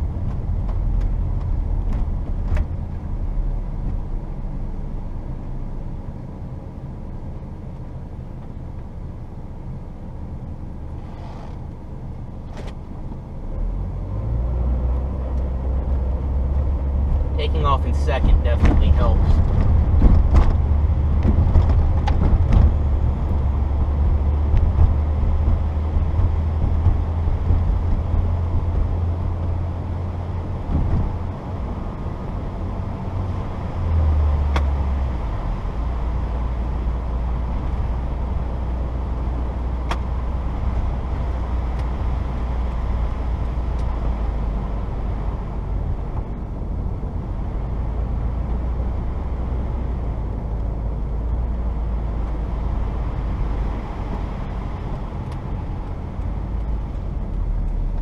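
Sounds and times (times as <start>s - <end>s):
car engine drone: 0.0s - 58.0s
road noise: 0.0s - 58.0s.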